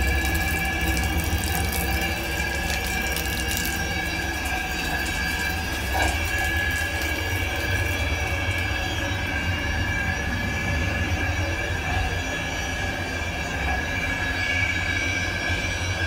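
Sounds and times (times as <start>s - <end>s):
train running gear rumble: 0.0s - 16.0s.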